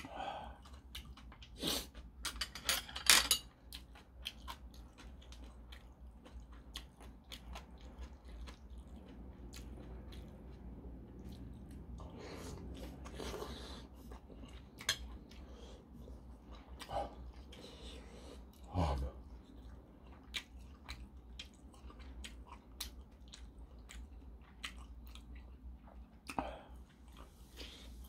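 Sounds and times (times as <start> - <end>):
chewing and mouth sounds: 0.0 - 2.2, 3.5 - 28.0.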